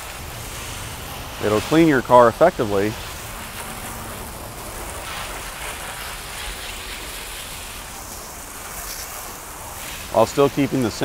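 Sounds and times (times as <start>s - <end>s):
hose spray hissing on car: 0.0s - 11.0s.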